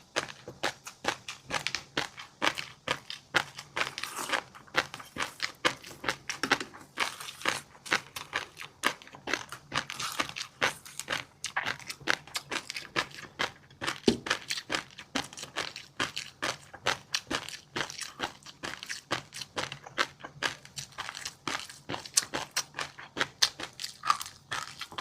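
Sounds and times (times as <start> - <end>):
chewing crunchy food: 0.0 - 25.0.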